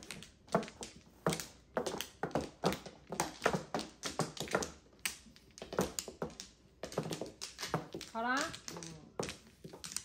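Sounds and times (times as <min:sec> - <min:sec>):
mahjong tiles clacking: 0:00.0 - 0:10.0.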